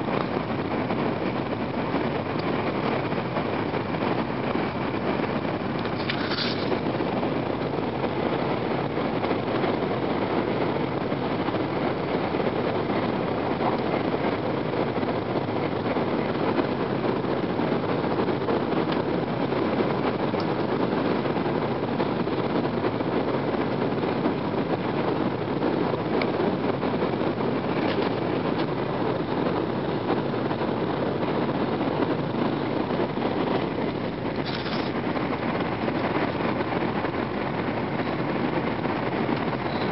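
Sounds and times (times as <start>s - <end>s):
train running noise: 0.0s - 39.9s.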